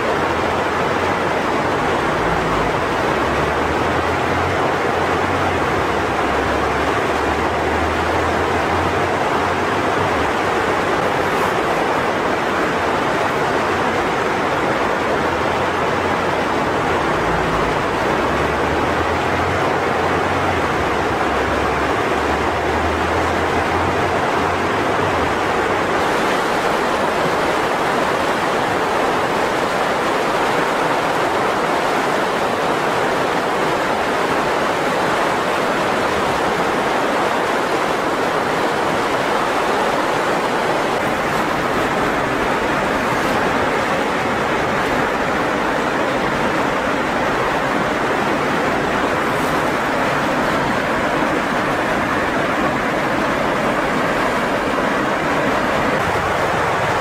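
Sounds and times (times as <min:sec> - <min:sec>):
river rushing over rapids: 0:00.0 - 0:57.0.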